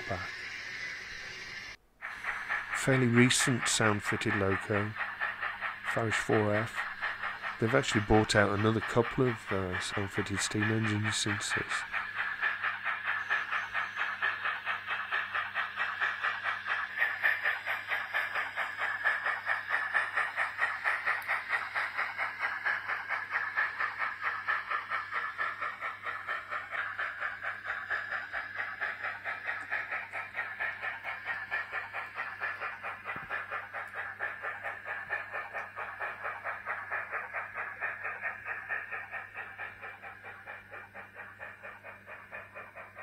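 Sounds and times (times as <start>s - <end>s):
model steam locomotive chuffs: 0.0s - 43.0s.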